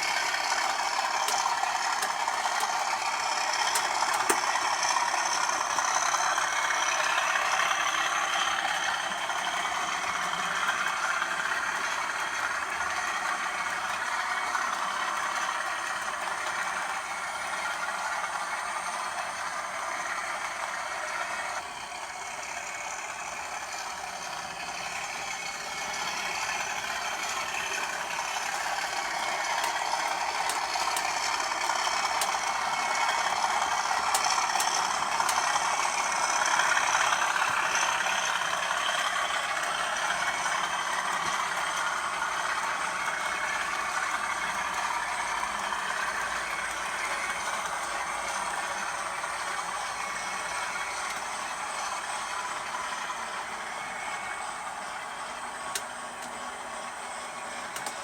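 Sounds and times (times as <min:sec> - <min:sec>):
diesel locomotive engine rattling: 0:00.0 - 0:58.0.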